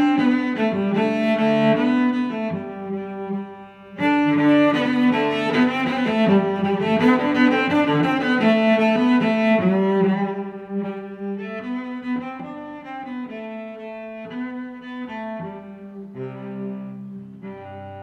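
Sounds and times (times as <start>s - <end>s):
slow music with held notes: 0.0s - 18.0s.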